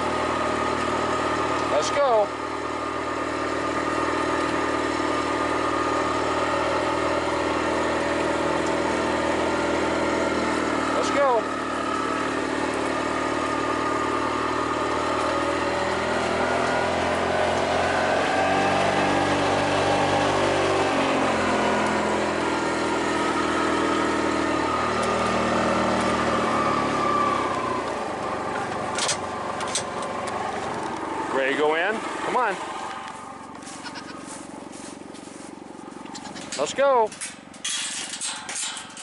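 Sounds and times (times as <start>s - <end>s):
small vehicle engine running: 0.0s - 39.0s.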